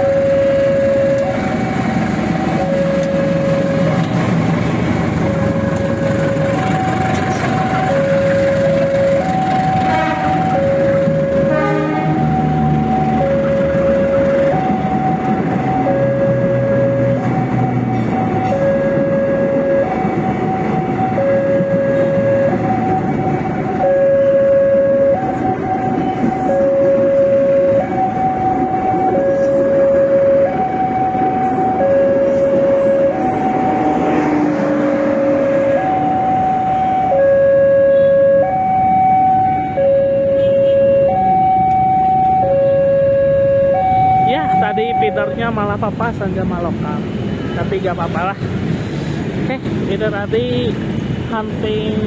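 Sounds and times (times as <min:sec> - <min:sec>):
two-tone siren: 0:00.0 - 0:04.3, 0:05.0 - 0:45.6
level crossing warning alarm: 0:00.0 - 0:46.7
street traffic: 0:00.0 - 0:52.0
train passing with rumble: 0:00.0 - 0:52.0.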